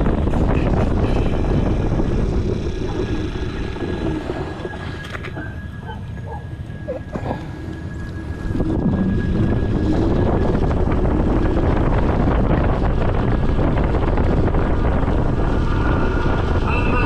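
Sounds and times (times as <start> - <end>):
engine-like rumble: 0.0 - 17.0.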